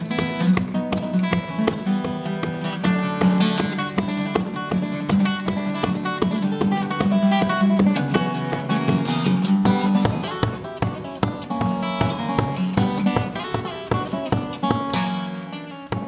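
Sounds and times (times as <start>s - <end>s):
acoustic guitar fingerpicking: 0.0s - 16.0s.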